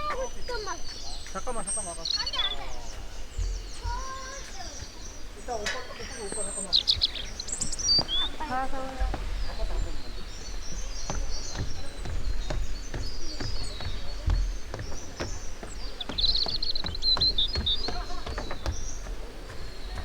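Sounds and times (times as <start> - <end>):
bird trill: 0.0 - 20.0
runner's footsteps: 0.0 - 20.0
small birds chirping: 0.0 - 20.0.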